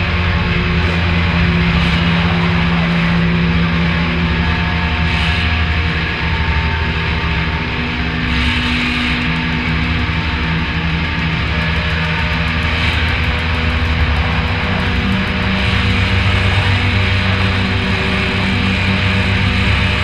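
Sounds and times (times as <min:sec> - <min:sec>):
distorted droning music: 0:00.0 - 0:20.0.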